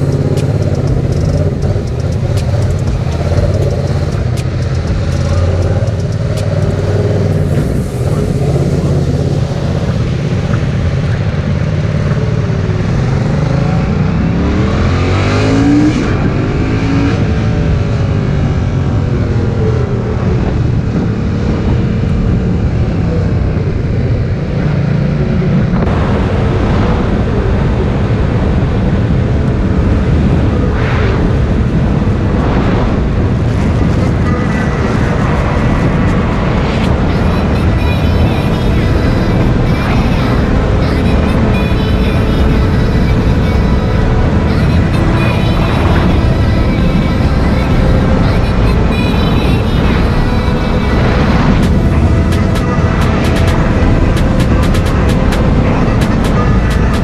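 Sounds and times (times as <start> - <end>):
motorcycle engine revving: 0.0 - 57.0
wind noise on microphone: 0.0 - 57.0.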